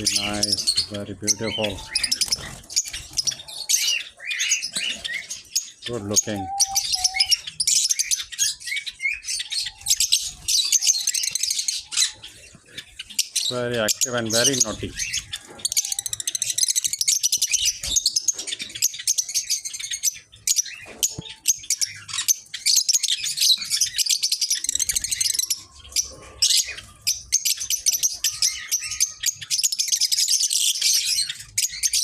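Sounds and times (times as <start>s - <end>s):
lovebirds chattering: 0.0s - 32.0s.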